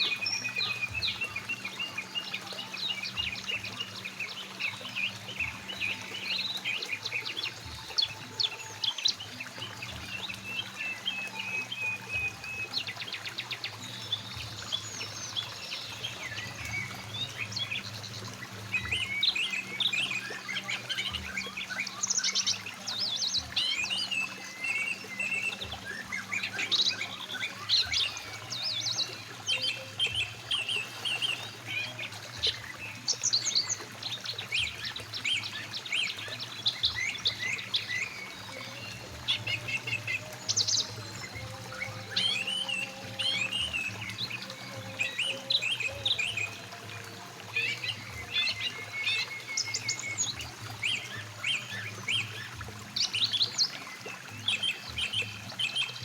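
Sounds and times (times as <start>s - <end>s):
birds chirping and singing: 0.0s - 56.0s
flowing stream rushing: 0.0s - 56.0s.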